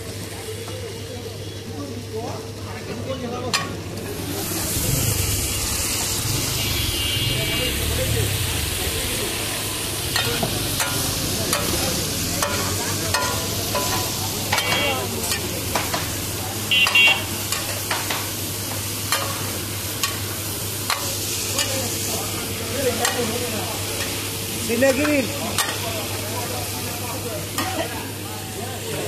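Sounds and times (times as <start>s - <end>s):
meat sizzling on griddle: 0.0s - 29.0s.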